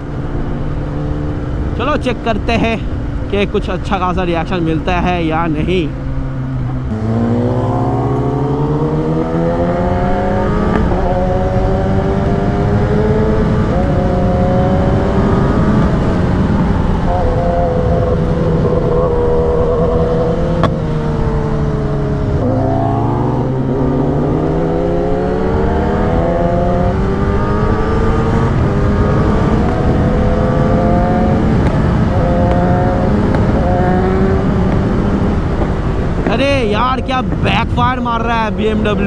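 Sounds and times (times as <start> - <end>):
motorcycle engine accelerating: 5.5 - 37.5.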